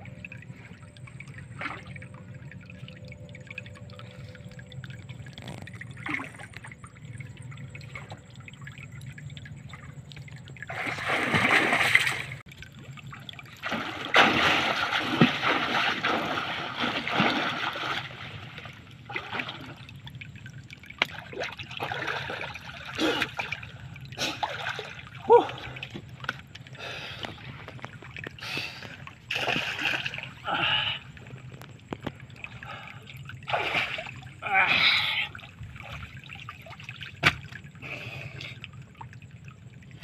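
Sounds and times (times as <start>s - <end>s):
small splashes and drips: 0.0s - 40.0s
water splashing and churning: 0.0s - 40.0s.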